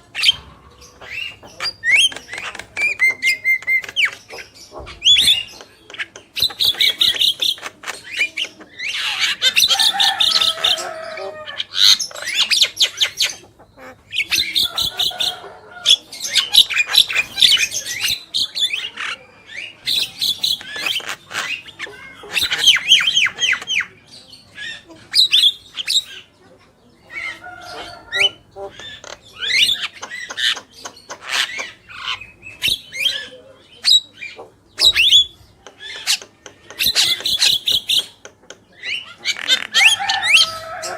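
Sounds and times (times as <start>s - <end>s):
mynas squawking and chattering: 0.0s - 40.9s.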